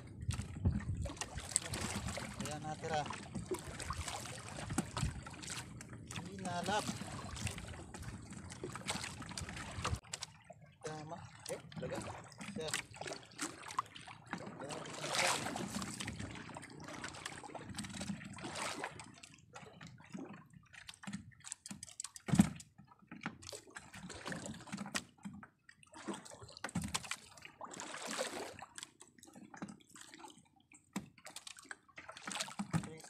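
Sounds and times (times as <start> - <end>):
water lapping around boat hull: 0.0 - 33.0
splashes and drips: 0.2 - 33.0.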